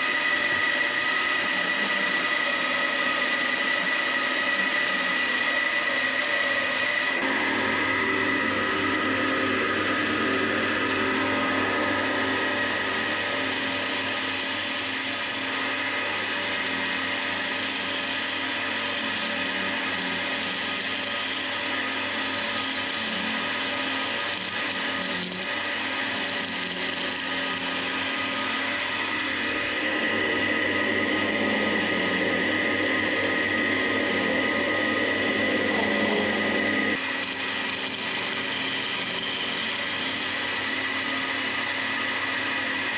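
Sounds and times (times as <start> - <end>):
tool scraping wood: 0.0 - 7.3, 9.6 - 42.9
wood lathe motor hum: 0.0 - 42.9.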